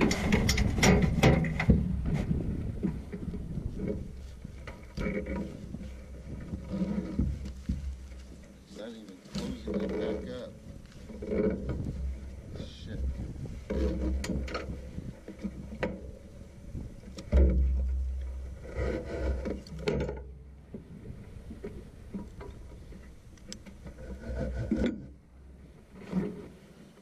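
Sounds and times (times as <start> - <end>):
wind rumble on microphone: 0.0 - 8.5, 9.4 - 27.0.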